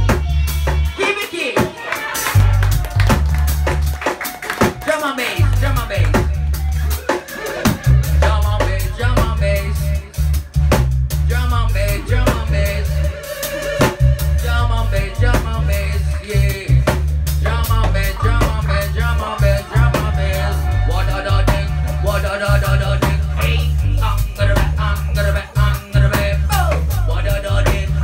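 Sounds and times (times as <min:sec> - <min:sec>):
deep bass line: 0:00.0 - 0:01.0, 0:02.2 - 0:28.0
drum kit beat: 0:00.0 - 0:28.0.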